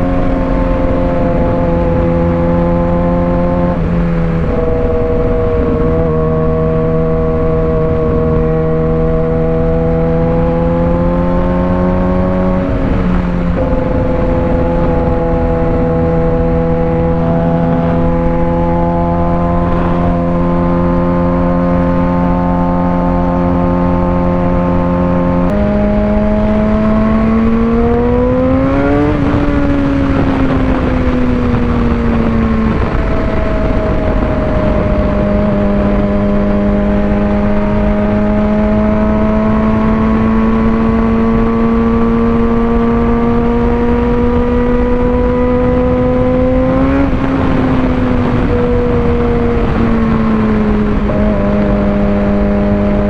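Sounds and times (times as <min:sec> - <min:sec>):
motorcycle engine running: 0:00.0 - 0:53.0
wind rush: 0:00.0 - 0:53.0.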